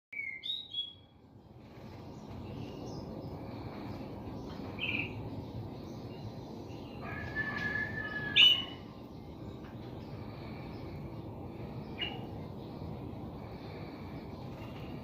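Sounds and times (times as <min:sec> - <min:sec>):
low background noise: 0:00.2 - 0:15.0.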